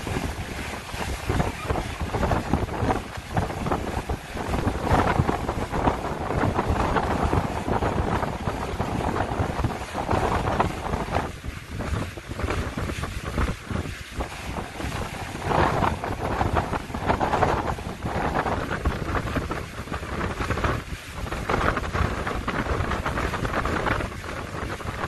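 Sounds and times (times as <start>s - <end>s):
water rushing along hull: 0.0s - 25.0s
wind buffeting microphone: 0.0s - 25.0s.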